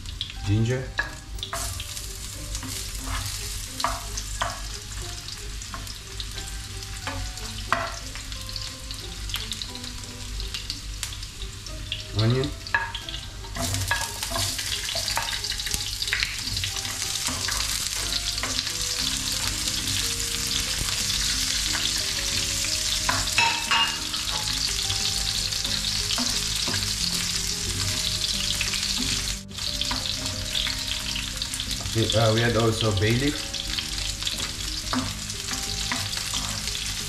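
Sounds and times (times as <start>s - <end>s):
food sizzling in hot oil: 0.0s - 37.0s
spatula scraping a pan: 1.1s - 8.3s, 12.6s - 32.0s, 33.6s - 37.0s.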